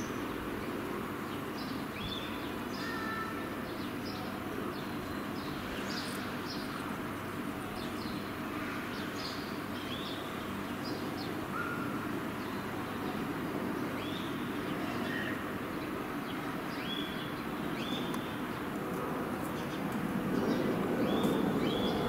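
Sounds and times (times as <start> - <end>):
birds chirping: 1.3 - 22.0.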